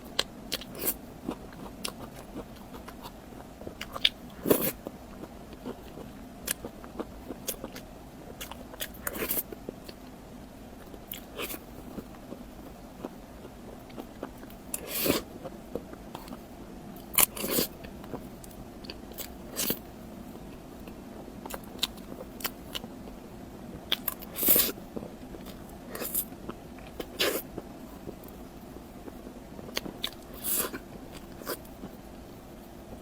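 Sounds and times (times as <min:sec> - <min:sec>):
person chewing food: 0:00.0 - 0:10.2, 0:10.8 - 0:33.0.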